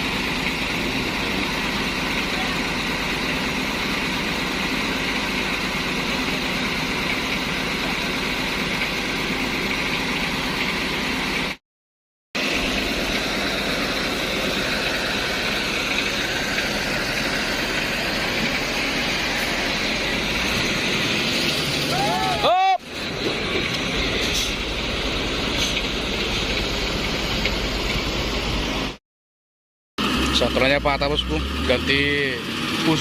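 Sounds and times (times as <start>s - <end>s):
diesel truck engine idling: 0.0s - 11.6s, 12.4s - 29.0s.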